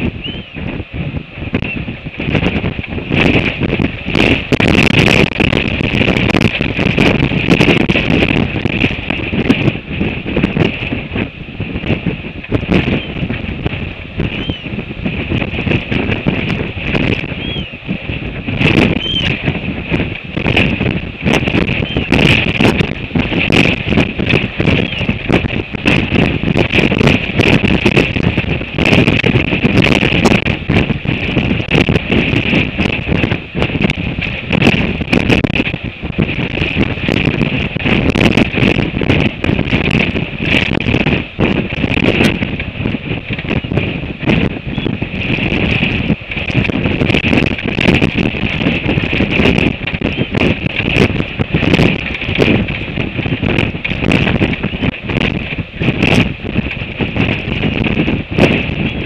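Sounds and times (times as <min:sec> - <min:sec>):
strong gusty wind on microphone: 0:00.0 - 0:59.0
wind crackles and knocks: 0:00.0 - 0:59.0.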